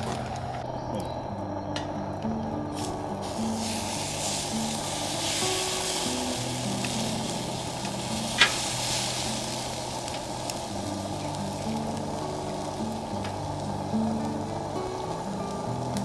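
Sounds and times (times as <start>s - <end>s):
soft background music: 0.0s - 16.0s
food sizzling in a pan: 1.5s - 16.0s.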